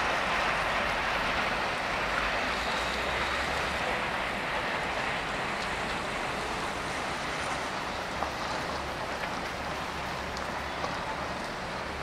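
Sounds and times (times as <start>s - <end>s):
distant freight train rushing: 0.0s - 11.8s.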